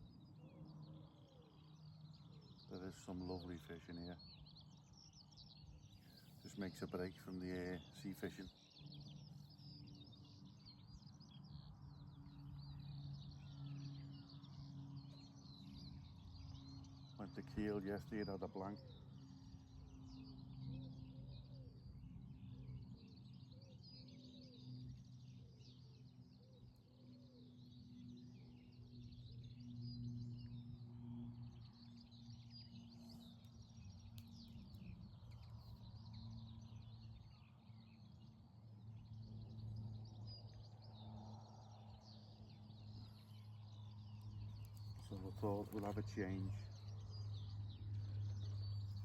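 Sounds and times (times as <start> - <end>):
birds chirping and singing: 0.0 - 49.0.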